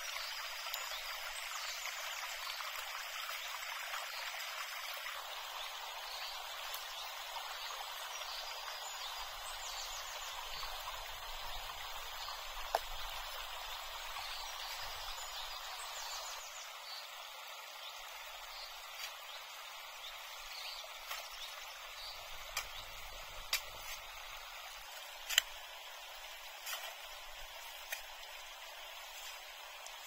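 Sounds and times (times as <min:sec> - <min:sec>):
outdoor background hiss: 0:00.0 - 0:30.0.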